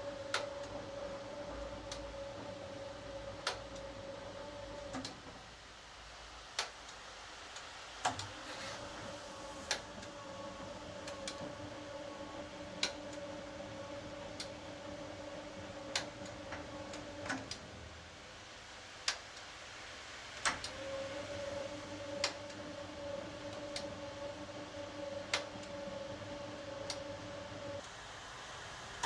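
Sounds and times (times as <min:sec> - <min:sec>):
washing machine motor humming: 0:00.0 - 0:05.6, 0:08.0 - 0:18.2, 0:20.4 - 0:27.9.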